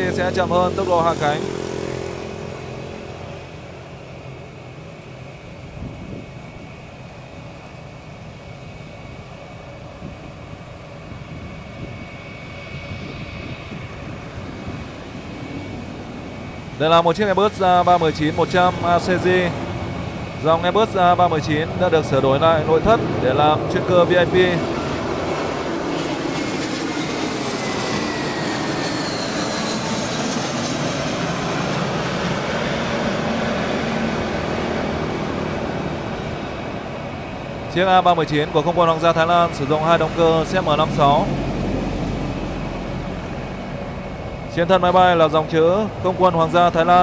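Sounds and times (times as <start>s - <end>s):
high engine whine: 0.0s - 47.0s
jet engines low rumble: 0.0s - 47.0s.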